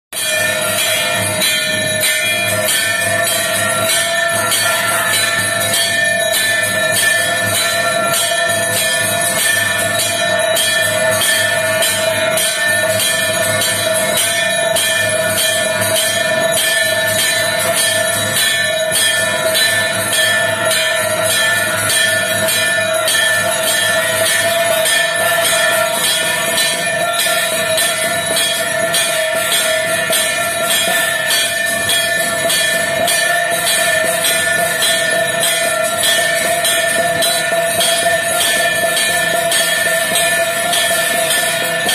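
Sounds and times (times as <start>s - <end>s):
temple bells ringing rapidly: 0.1s - 41.9s.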